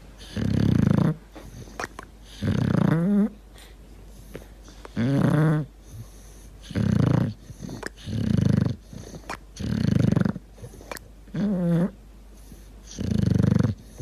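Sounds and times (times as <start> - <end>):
dog snoring: 0.2 - 3.4, 4.1 - 14.0.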